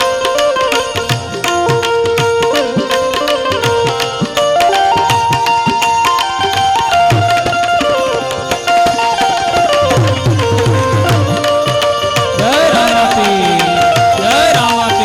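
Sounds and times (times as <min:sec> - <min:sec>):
hand drum: 0:00.0 - 0:15.0
harmonium melody: 0:00.0 - 0:15.0.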